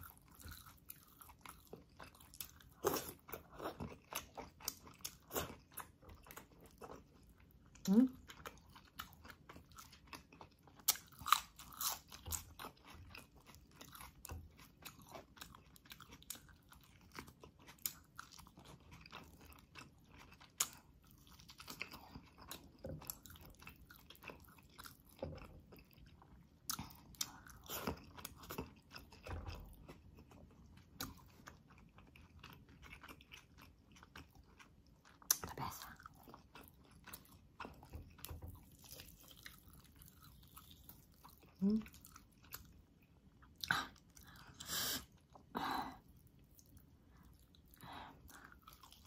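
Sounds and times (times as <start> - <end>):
food crunching: 0.0 - 45.5, 46.3 - 49.0
person chewing and biting: 0.0 - 45.5, 46.4 - 49.0.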